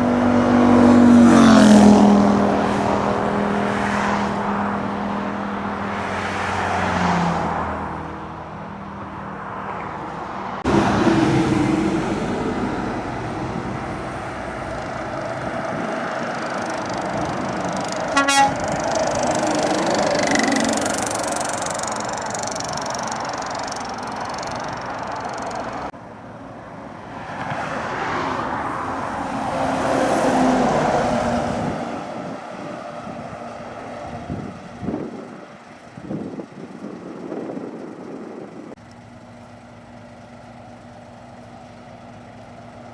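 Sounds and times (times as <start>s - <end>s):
heavy truck engines climbing: 0.0s - 42.9s.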